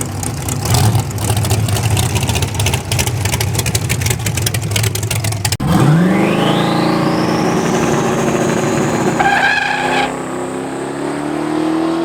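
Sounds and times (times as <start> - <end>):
drag car engine running: 0.0 - 11.1.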